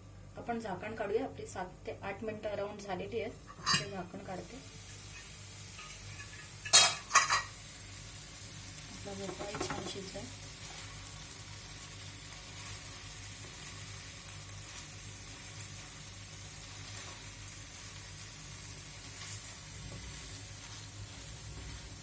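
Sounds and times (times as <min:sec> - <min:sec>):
vegetables sizzling in a pan: 0:00.4 - 0:22.0.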